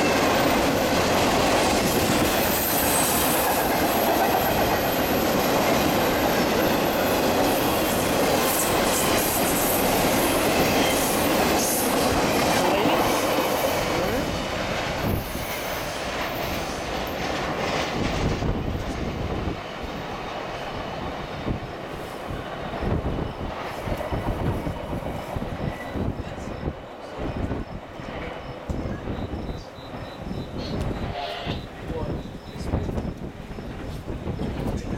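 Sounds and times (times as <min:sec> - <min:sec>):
freight train rumbling past: 0:00.0 - 0:34.9.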